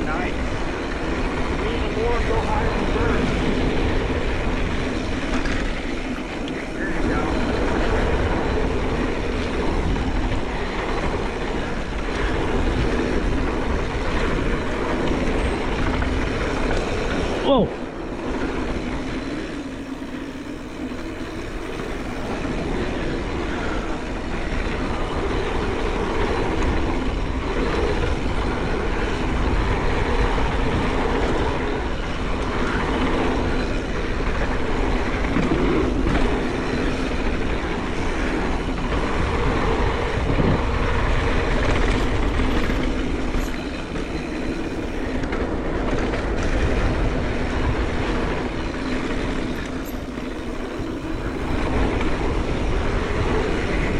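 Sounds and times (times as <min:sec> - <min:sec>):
bike tyres rattling on rough ground: 0:00.0 - 0:53.9
wind buffeting microphone: 0:00.0 - 0:53.9.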